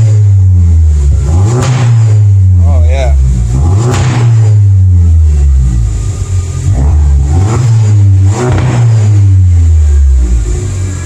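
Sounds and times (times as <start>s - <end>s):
engine exhaust rumble and revving: 0.0s - 11.0s.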